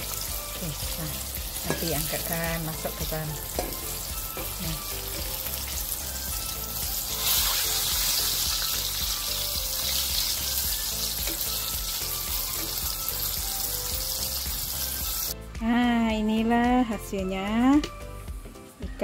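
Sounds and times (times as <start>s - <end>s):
fish deep-frying in oil: 0.0s - 15.4s.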